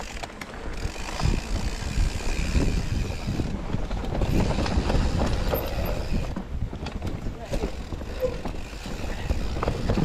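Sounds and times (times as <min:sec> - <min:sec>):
bike knocking and rattling: 0:00.0 - 0:10.0
tyres rumbling on dirt: 0:00.1 - 0:10.0.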